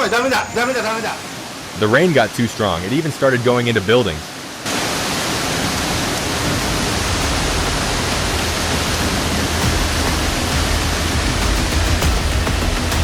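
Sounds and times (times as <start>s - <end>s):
rainwater pouring and rushing: 0.0s - 13.0s
torrential rain: 0.0s - 13.0s.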